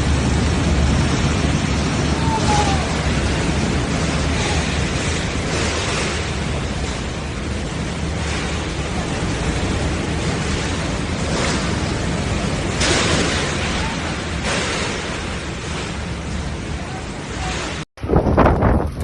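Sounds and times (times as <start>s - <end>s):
heavy rain: 0.0s - 19.0s
strong wind: 0.0s - 19.0s
wind buffeting microphone: 0.0s - 19.0s.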